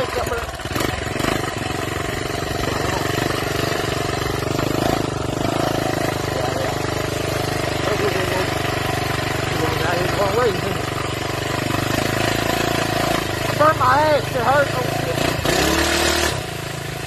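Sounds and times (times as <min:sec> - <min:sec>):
minibike engine running: 0:00.0 - 0:17.0.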